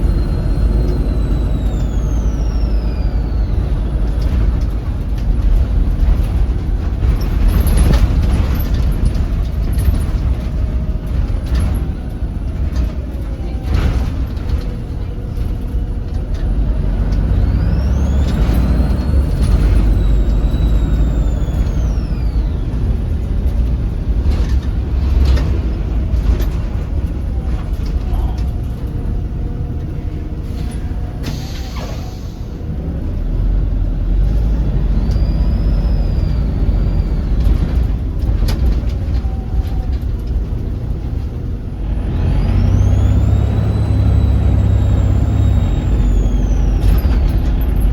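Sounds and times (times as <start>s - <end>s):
bus diesel engine rumbling: 0.0s - 47.9s.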